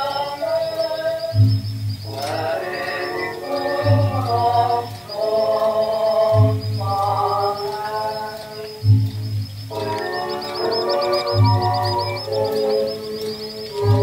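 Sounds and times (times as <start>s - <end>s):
chant-like sliding melody: 0.0s - 14.0s
low beat: 0.0s - 14.0s.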